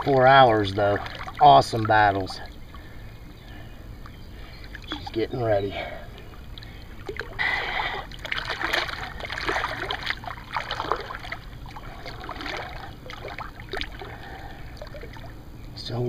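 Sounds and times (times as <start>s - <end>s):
pond water splashing and sloshing: 0.0s - 16.0s.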